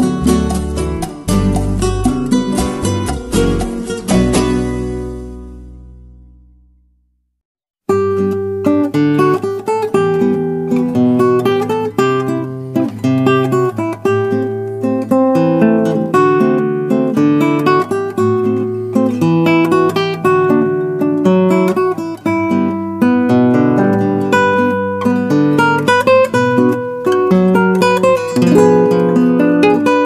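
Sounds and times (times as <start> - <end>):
acoustic guitar music: 0.0 - 7.0, 7.9 - 30.0.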